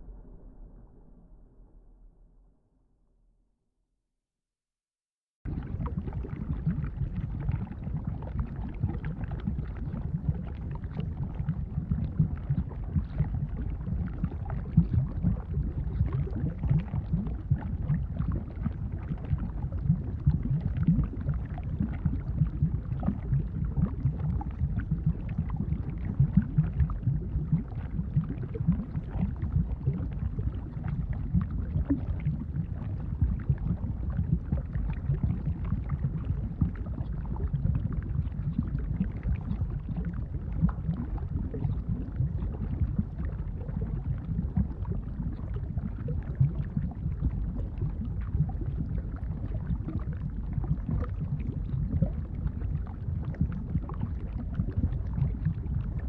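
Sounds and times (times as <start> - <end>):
lava bubbling: 5.5 - 56.0.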